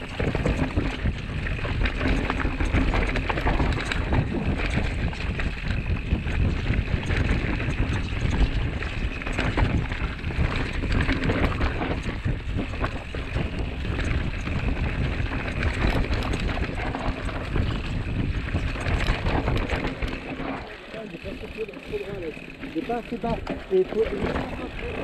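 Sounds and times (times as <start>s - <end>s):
bike rattling clicks and knocks: 0.0s - 25.0s
bike tyres on dirt: 0.0s - 25.0s
wind buffeting microphone: 0.0s - 25.0s.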